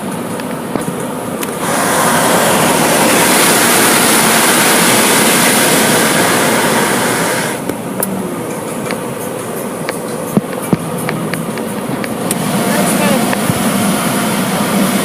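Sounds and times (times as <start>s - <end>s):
car wash rushing hiss: 0.0s - 15.0s.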